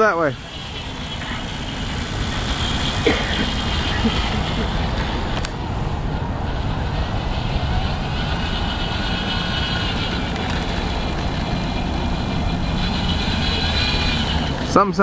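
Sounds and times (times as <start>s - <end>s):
electric model plane motor whine: 0.0s - 14.8s
low rumble: 0.4s - 14.8s.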